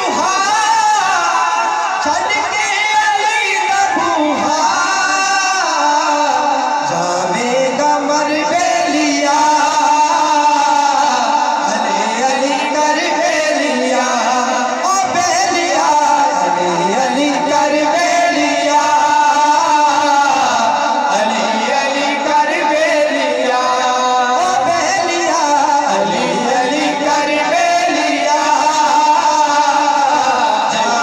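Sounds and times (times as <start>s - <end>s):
man singing devotional song: 0.0s - 31.0s.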